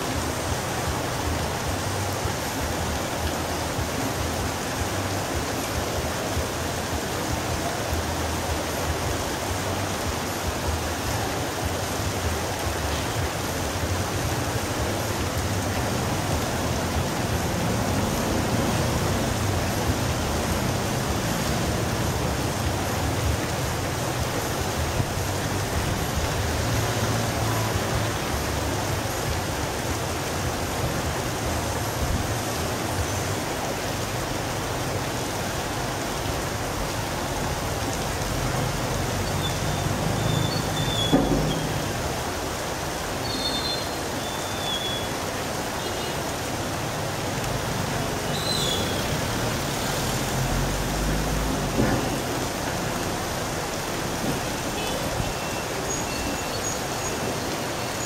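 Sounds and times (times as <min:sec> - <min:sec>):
rain hissing on street and roofs: 0:00.0 - 0:58.0
traffic rumble: 0:00.0 - 0:58.0.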